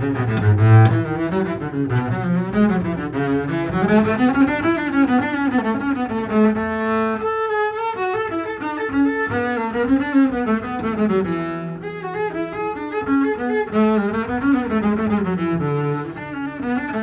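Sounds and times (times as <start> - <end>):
bowed double bass melody: 0.0 - 7.4, 8.2 - 16.9.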